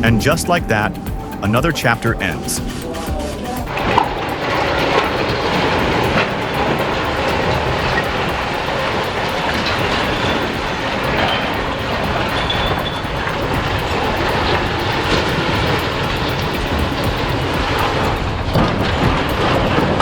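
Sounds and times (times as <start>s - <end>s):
demolition machinery rumbling: 0.0s - 20.0s.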